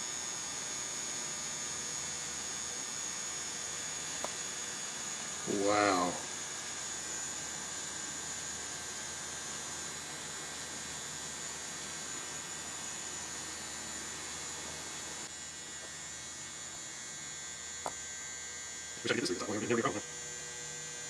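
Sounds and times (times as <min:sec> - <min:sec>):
electrical hum and hiss: 0:00.0 - 0:21.0.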